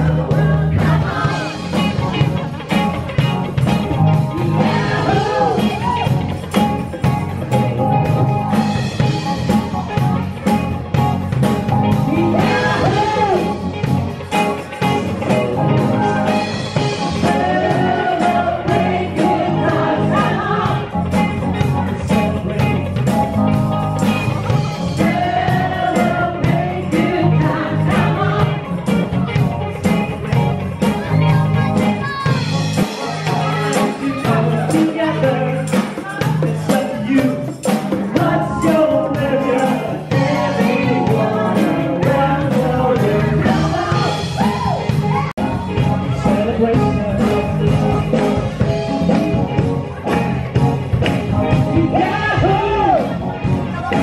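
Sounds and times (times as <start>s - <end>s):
live band playing a song: 0.0s - 54.0s.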